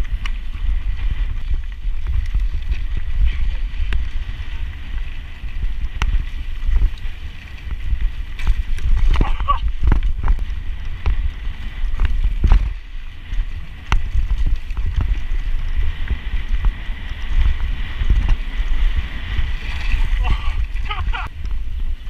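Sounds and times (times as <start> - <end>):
bike rattling over dirt: 0.0 - 22.0
wind buffeting microphone: 0.0 - 22.0.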